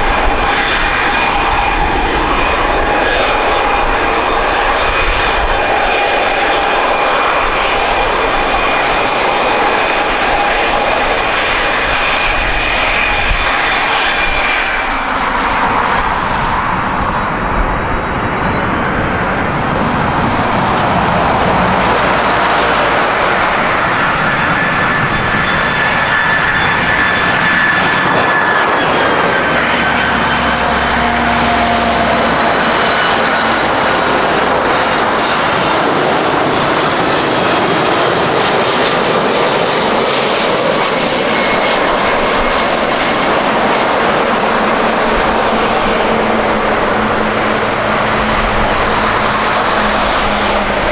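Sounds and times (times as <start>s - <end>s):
thin whining tones: 0.0s - 28.1s, 28.8s - 37.6s, 40.9s - 50.9s
jet airliner engines passing: 0.0s - 50.9s.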